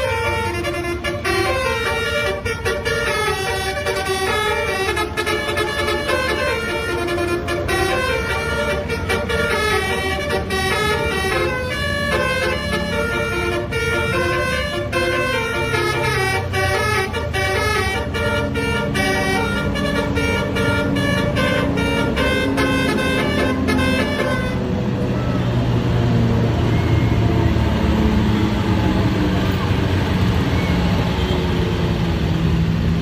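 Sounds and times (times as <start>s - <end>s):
multi-tone bus horn melody: 0.0s - 31.8s
bus engine hum: 0.0s - 33.0s.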